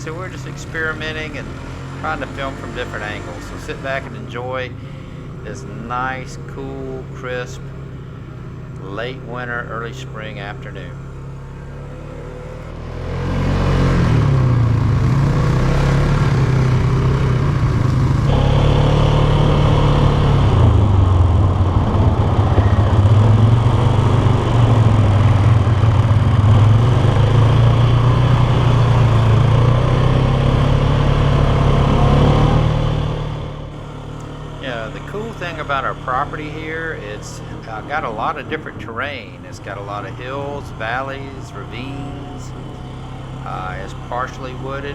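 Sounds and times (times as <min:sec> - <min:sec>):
atv engine revving: 0:00.0 - 0:44.9.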